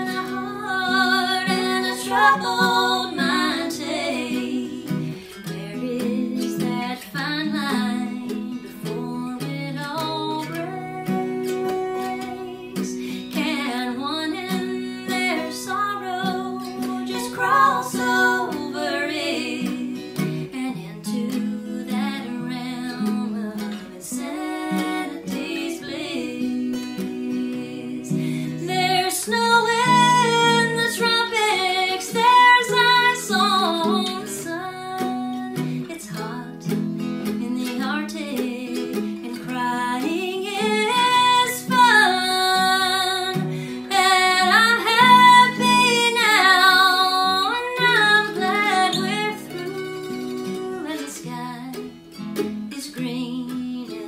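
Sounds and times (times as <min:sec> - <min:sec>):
woman singing in harmony: 0:00.0 - 0:52.0, 0:52.7 - 0:54.0
acoustic guitar: 0:00.0 - 0:54.0
mandolin: 0:00.0 - 0:54.0.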